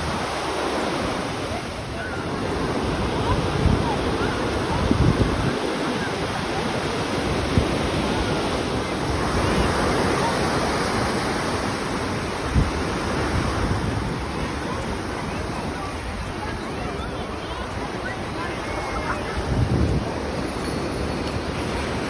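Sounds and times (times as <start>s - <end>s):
ocean surf breaking on sand: 0.0s - 22.0s.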